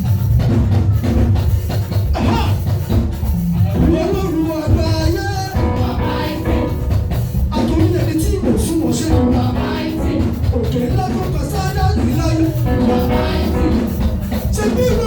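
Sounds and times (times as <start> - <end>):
drums: 0.0 - 15.0
voices singing gospel music: 2.0 - 15.0.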